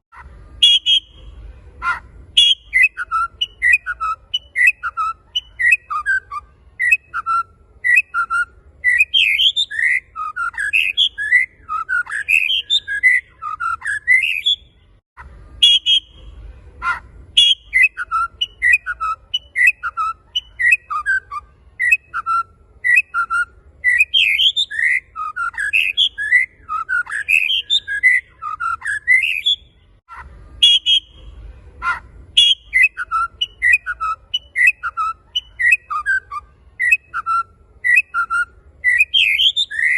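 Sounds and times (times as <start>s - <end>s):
songbird whistling: 0.2s - 14.7s, 15.6s - 16.2s, 16.8s - 29.7s, 30.6s - 31.2s, 31.8s - 39.9s.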